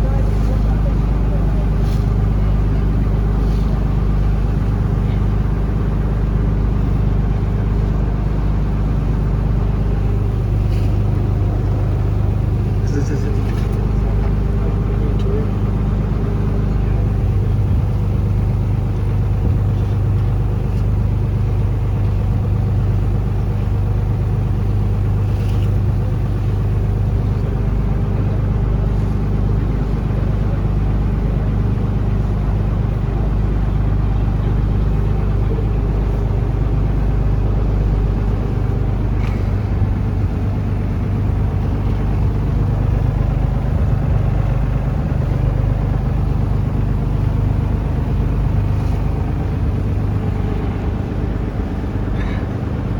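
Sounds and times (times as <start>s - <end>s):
boat engine droning: 0.0s - 52.9s
water noise: 0.0s - 52.9s.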